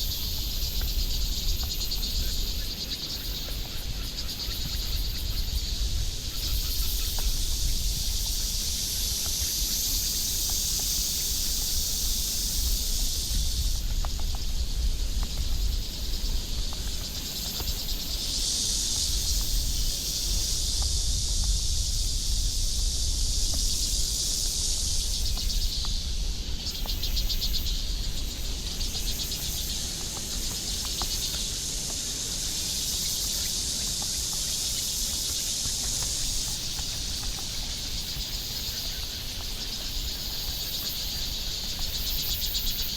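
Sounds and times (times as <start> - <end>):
insects chirring: 0.0 - 42.9.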